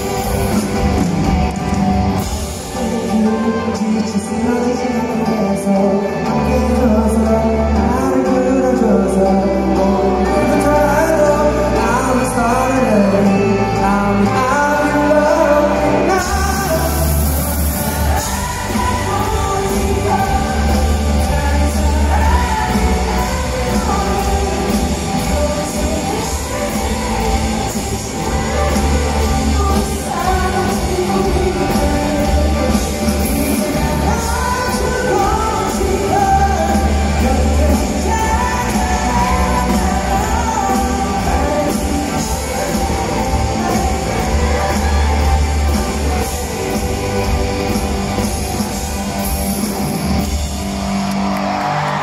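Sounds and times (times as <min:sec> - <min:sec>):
bass guitar: 0:00.0 - 0:52.0
drums: 0:00.0 - 0:52.0
electric guitars: 0:00.0 - 0:52.0
person singing: 0:00.0 - 0:52.0.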